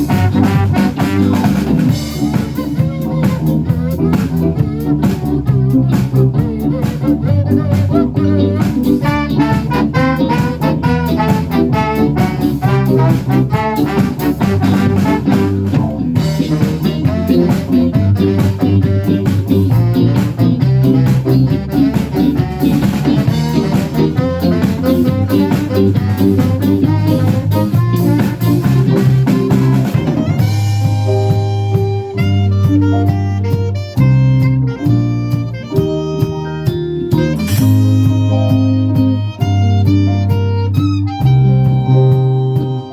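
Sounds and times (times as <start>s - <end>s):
drum kit beat: 0.0s - 42.9s
live band playing instrumental: 0.0s - 42.9s.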